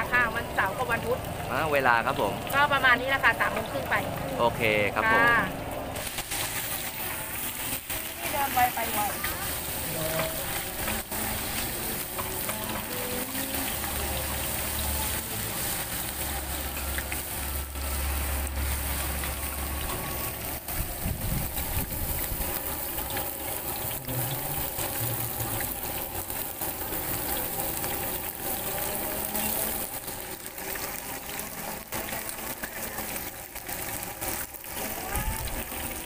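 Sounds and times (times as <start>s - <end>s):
deep-frying oil sizzle: 0.0s - 36.0s.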